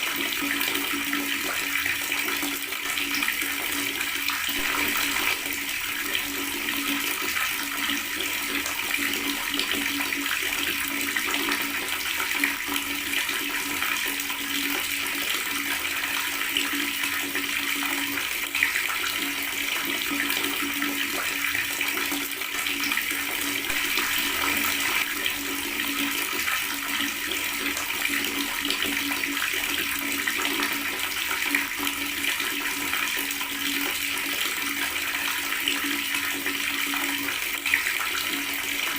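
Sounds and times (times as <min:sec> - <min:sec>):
water running from a tap: 0:00.0 - 0:38.9.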